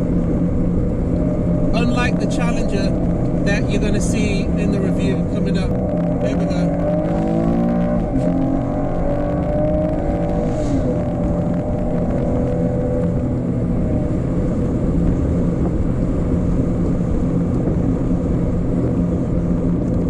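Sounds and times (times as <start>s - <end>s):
car engine accelerating: 0.0s - 20.0s
road noise: 0.0s - 20.0s.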